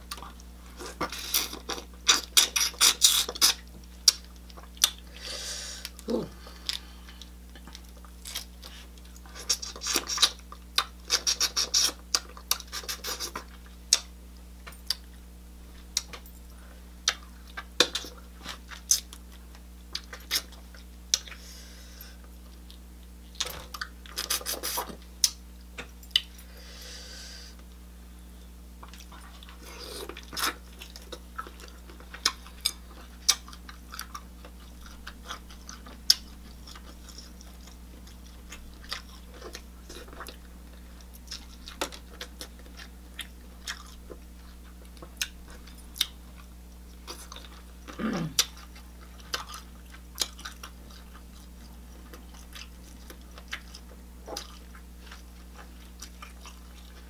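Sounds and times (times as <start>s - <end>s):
smacking and chewing mouth sounds: 0.0s - 5.1s, 5.8s - 15.2s, 17.0s - 21.4s, 22.2s - 26.4s, 28.8s - 57.0s.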